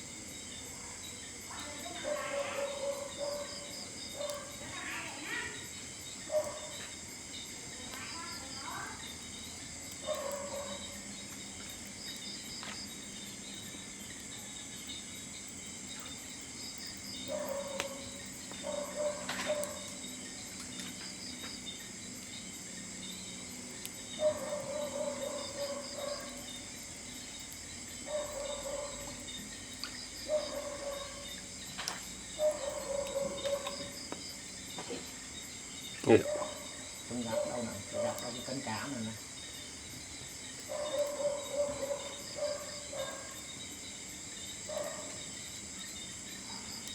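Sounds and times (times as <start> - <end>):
insect chorus shrilling: 0.3 - 46.9.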